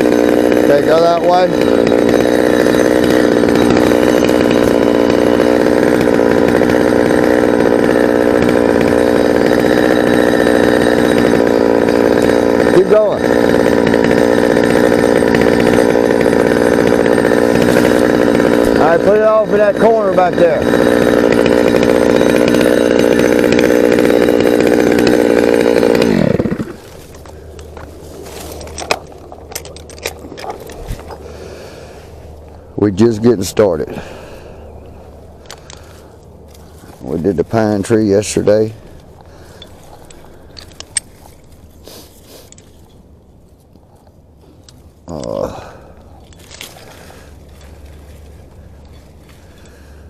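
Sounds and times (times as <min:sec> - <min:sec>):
chainsaw engine running: 0:00.0 - 0:50.0.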